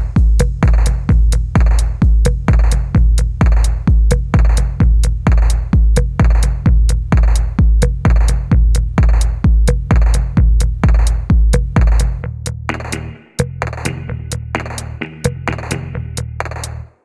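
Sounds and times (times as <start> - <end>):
electronic music with drum-machine beat: 0.0 - 16.9.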